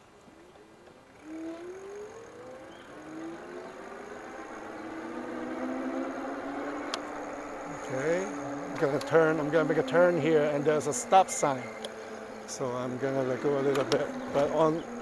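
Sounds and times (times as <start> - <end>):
electric bike motor whining: 0.8 - 15.0.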